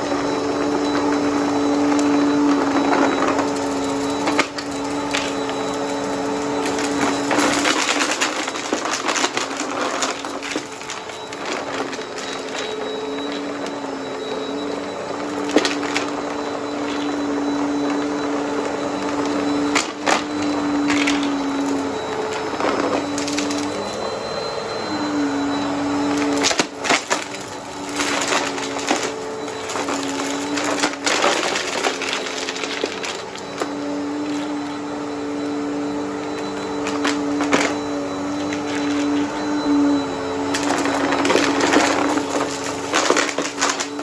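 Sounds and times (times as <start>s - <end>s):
debris crunching in vacuum: 0.0s - 13.8s, 14.6s - 24.1s, 25.4s - 34.8s, 36.4s - 44.0s
vacuum cleaner motor hum: 0.0s - 44.0s.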